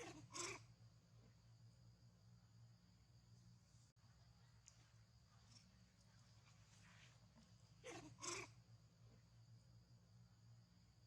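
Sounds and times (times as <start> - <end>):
faint high-pitched whine: 0.0 - 11.0
faint low hum: 0.0 - 11.0.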